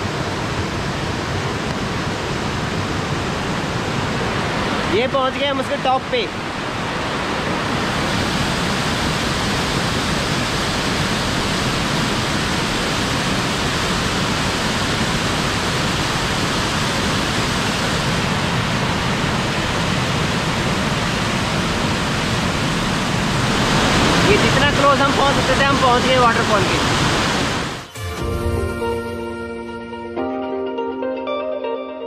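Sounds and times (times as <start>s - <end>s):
waterfall roaring: 0.0s - 27.9s.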